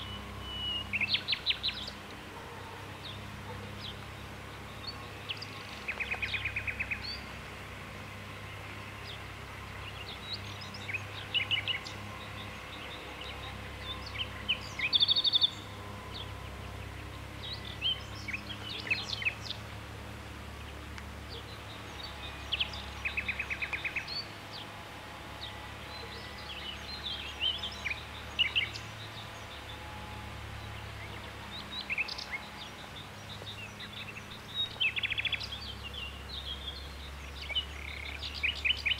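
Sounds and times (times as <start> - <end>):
small birds singing and chirping: 0.0 - 38.9.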